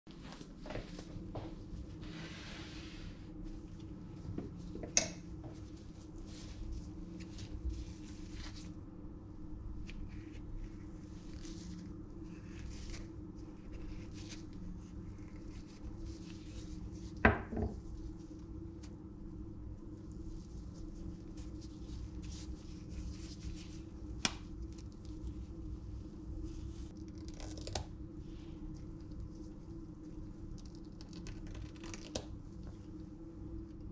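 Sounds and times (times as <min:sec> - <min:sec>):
low steady hum: 0:00.1 - 0:33.9.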